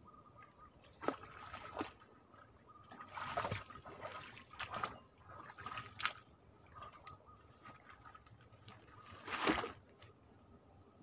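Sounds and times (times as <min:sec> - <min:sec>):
water splashing and sloshing: 0:00.2 - 0:10.4.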